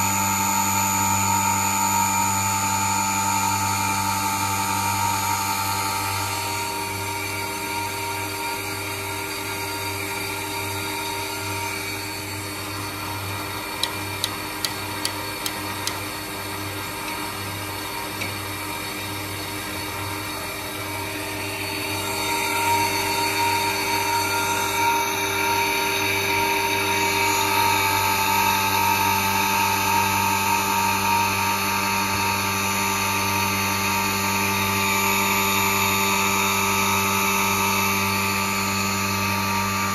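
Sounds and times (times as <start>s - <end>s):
grinding machine hum and whine: 0.0s - 39.9s.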